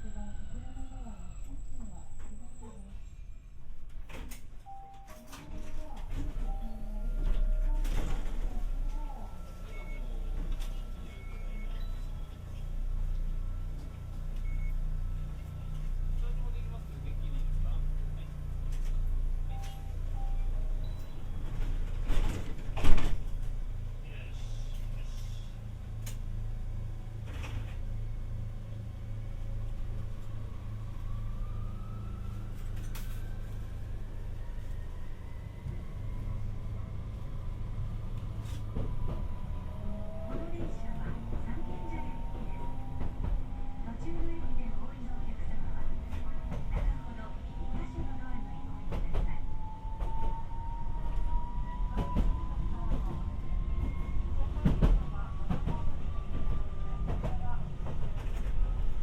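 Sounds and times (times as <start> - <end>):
train rumble with electric whine: 0.0 - 59.0
tram running hum: 0.0 - 59.0.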